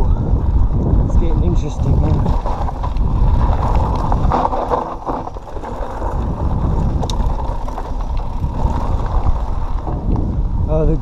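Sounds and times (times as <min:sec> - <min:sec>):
bike tyres rolling on dirt: 0:00.0 - 0:11.0
wind on microphone: 0:00.0 - 0:11.0.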